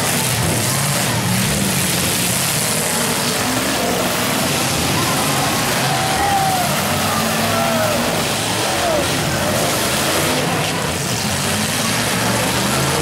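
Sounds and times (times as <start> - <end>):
car engines running and revving: 0.0 - 13.0.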